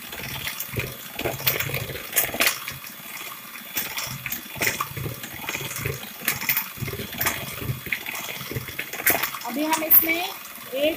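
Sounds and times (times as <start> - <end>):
electric hand mixer whirring: 0.0 - 10.9
wet churning of mix: 0.0 - 10.9.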